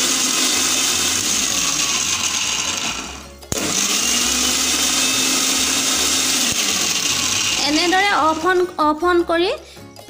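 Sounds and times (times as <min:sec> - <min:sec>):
mixer grinder running: 0:00.0 - 0:08.8.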